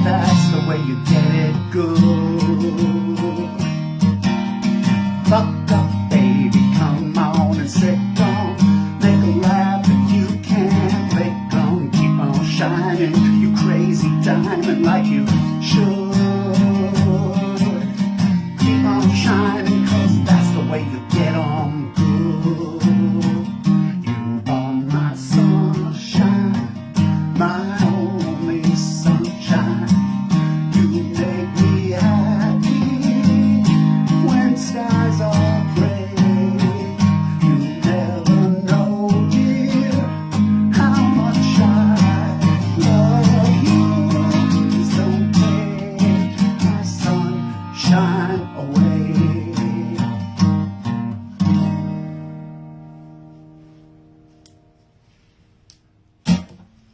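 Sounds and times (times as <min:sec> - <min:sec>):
acoustic guitar strumming chords: 0:00.0 - 0:55.4, 0:56.2 - 0:56.9.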